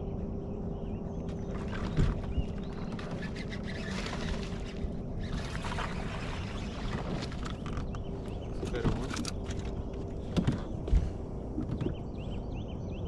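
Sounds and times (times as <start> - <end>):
boat motor humming: 0.0 - 12.8.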